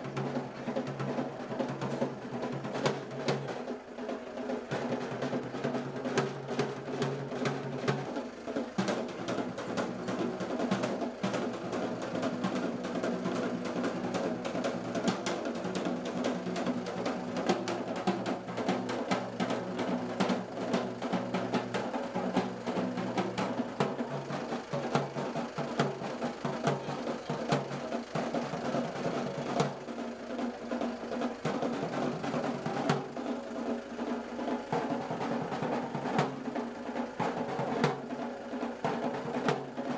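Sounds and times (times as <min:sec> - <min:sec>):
drums beaten fast: 0:00.0 - 0:39.9.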